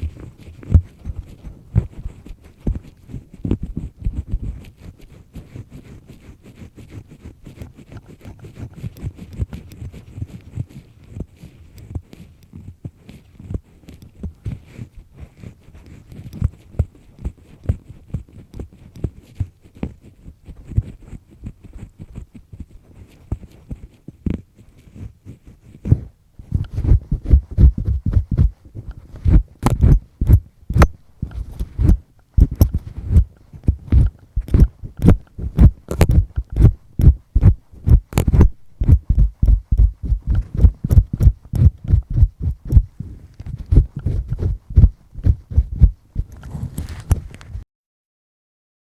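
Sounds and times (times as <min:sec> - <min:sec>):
earpick scraping in ear: 0:00.0 - 0:47.6.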